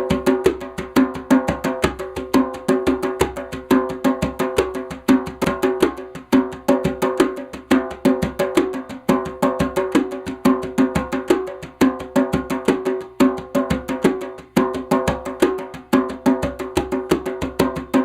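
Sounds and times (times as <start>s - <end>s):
drum played in fast rhythm: 0.0s - 18.0s.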